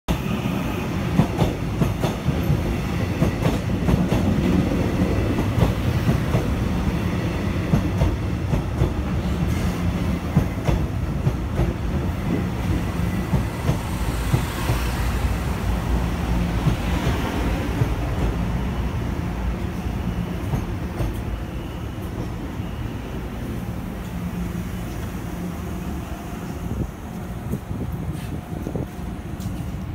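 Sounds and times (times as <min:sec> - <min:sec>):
train rumbling: 0:00.1 - 0:29.9.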